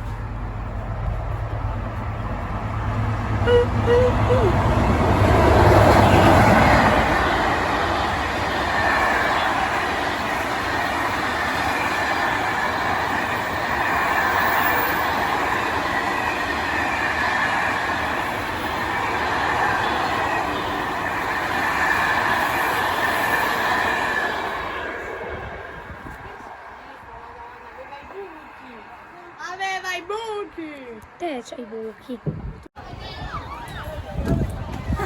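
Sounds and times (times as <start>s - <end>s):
train wheels rushing on rails: 0.0s - 28.9s.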